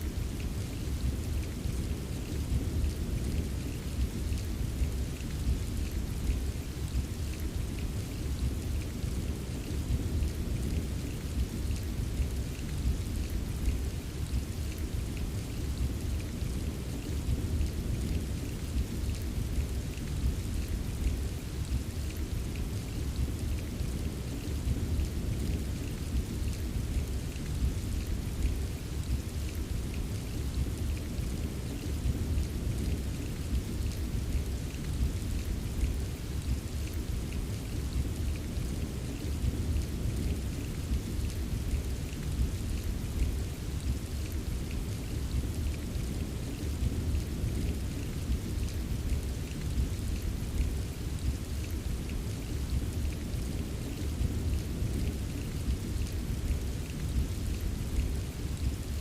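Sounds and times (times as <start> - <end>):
raindrop patter: 0.0 - 59.0
steady rain: 0.0 - 59.0.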